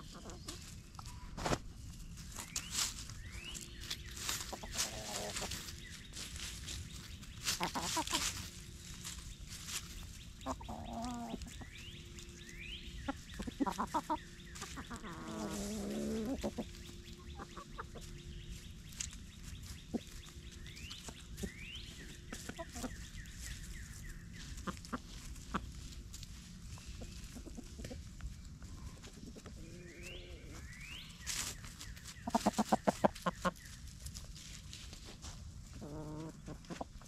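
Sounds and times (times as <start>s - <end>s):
chickens clucking: 0.0s - 37.0s
rustling in dry leaves: 0.0s - 37.0s.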